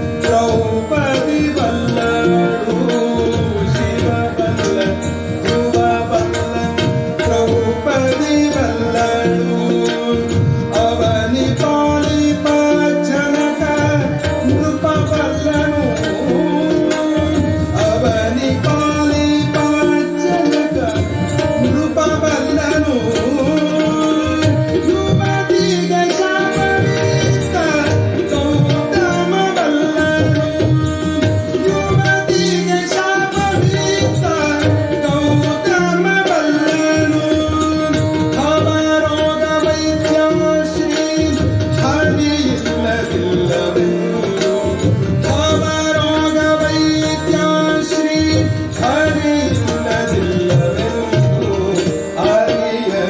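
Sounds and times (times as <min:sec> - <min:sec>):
harmonium: 0:00.0 - 0:53.0
man singing: 0:00.0 - 0:53.0
tabla: 0:00.0 - 0:53.0.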